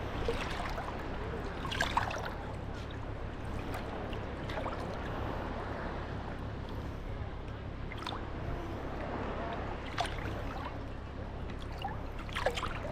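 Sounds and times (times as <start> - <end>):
light water splashes: 0.0 - 12.9
small waves lapping at shore: 0.0 - 12.9.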